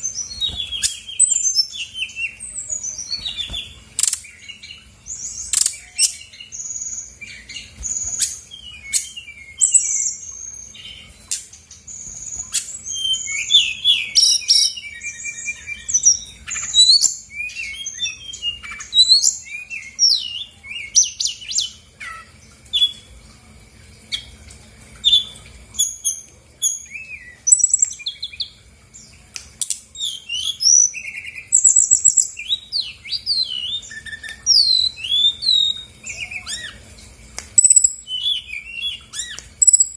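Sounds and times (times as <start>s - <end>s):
bird singing chirps and trills: 0.0s - 23.4s, 24.1s - 37.0s, 37.6s - 39.9s.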